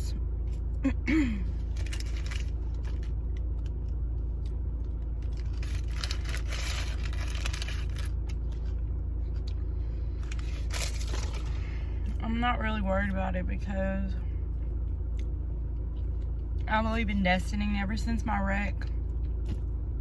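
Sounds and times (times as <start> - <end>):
low rumble in car cabin: 0.0 - 20.0.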